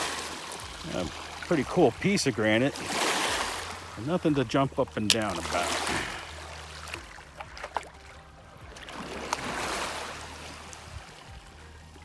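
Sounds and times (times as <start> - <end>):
waves washing on rocky shore: 0.0 - 8.0, 8.6 - 11.4.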